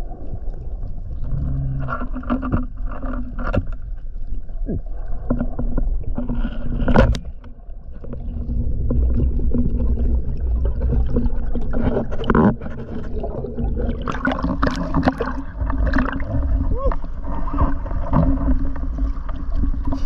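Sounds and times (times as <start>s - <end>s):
underwater clicks and crackles: 0.0s - 20.0s
underwater surge rumble: 3.8s - 20.0s.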